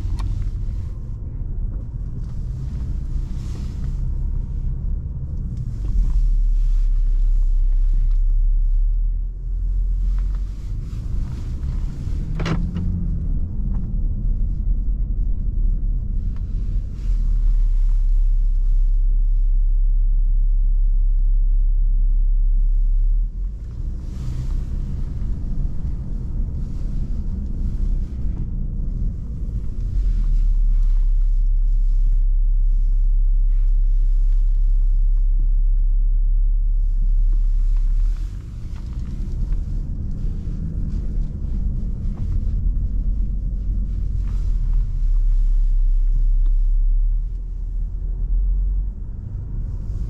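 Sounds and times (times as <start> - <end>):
diesel engine rumble from cabin: 0.0 - 50.0.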